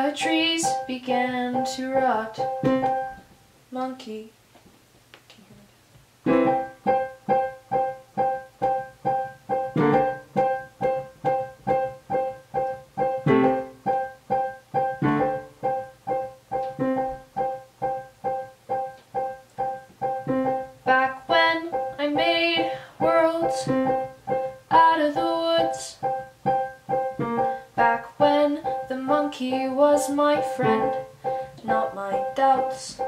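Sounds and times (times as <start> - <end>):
piano chord struck repeatedly: 0.0 - 3.3, 6.2 - 33.0.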